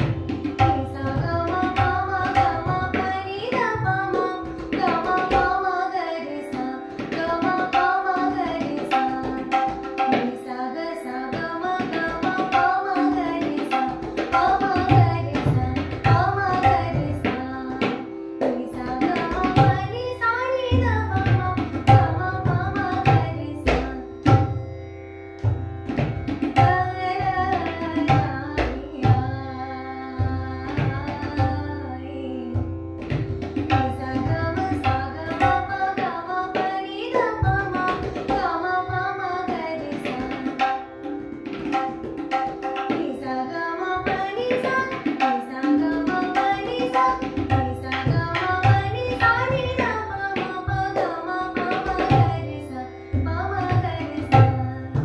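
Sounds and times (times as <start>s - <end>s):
tabla strokes: 0.0s - 5.7s, 6.5s - 10.5s, 11.3s - 24.7s, 25.4s - 29.5s, 30.2s - 31.6s, 32.5s - 55.0s
woman singing: 0.0s - 24.7s, 26.3s - 55.0s.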